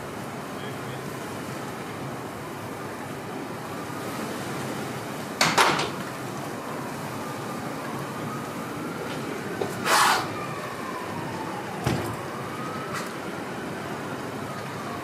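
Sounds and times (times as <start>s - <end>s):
city street in snowstorm: 0.0s - 15.0s
distant siren wailing: 0.0s - 15.0s.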